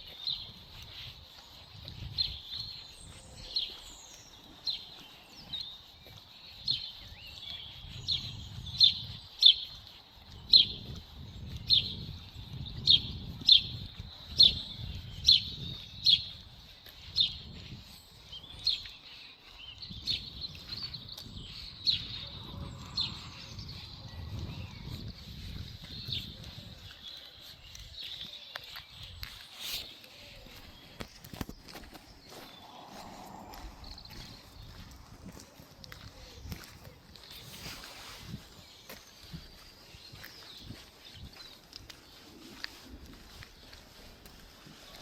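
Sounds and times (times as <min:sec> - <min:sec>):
songbird chirping: 0:00.0 - 0:45.0.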